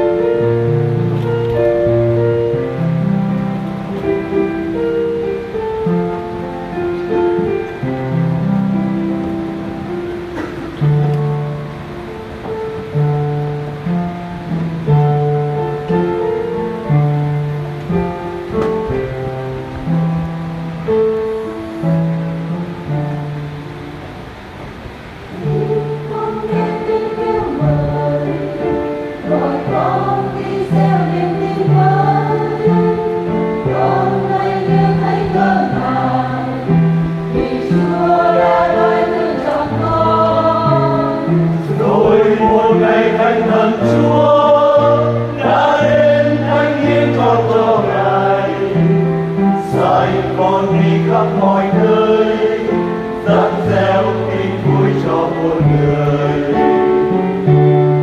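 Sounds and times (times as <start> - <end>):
choir singing a hymn: 0.0 - 19.9, 24.9 - 58.0.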